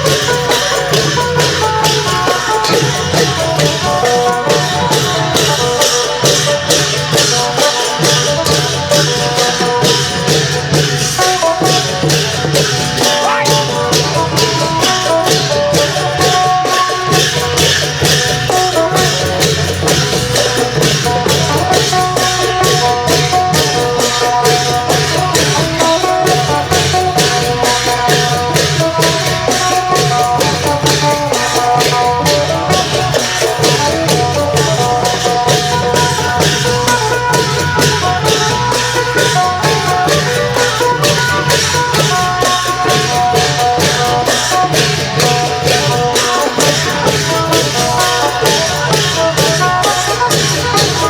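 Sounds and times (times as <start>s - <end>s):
long drums beating: 0.0s - 51.0s
lute melody: 0.0s - 51.0s
small cymbals: 0.0s - 51.0s.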